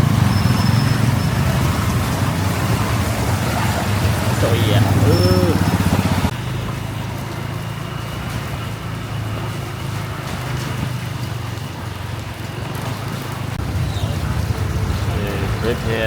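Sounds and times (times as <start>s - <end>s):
rain hissing: 0.0s - 16.0s
vehicle engines humming: 0.0s - 16.0s.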